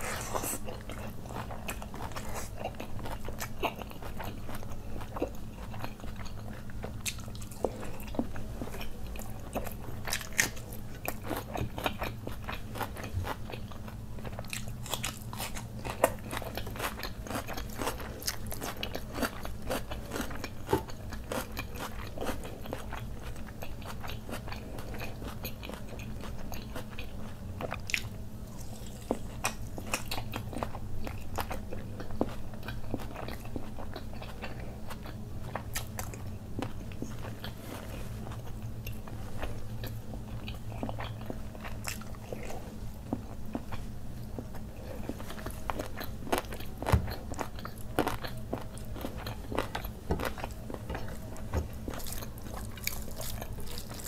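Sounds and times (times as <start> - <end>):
man chewing wetly: 0.0 - 54.0
steady low hum: 0.0 - 54.0.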